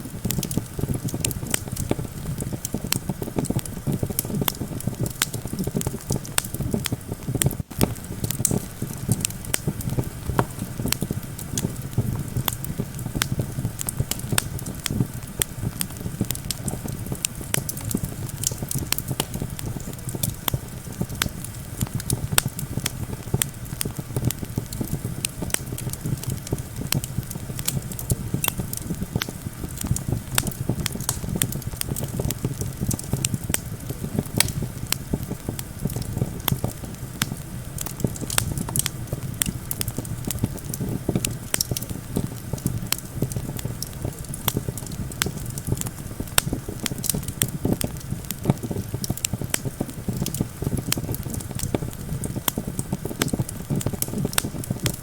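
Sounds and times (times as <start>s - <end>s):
campfire crackling and popping: 0.0s - 55.0s
low rumble of wind: 0.0s - 55.0s.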